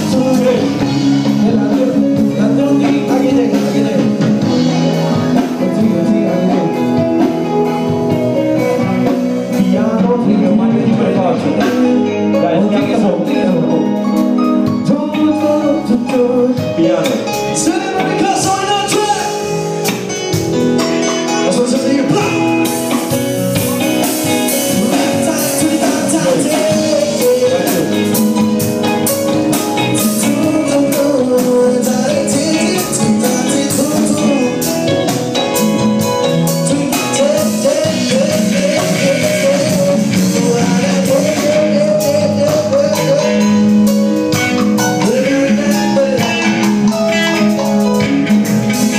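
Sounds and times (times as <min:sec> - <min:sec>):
song with singer guitar and percussion: 0:00.0 - 0:48.9.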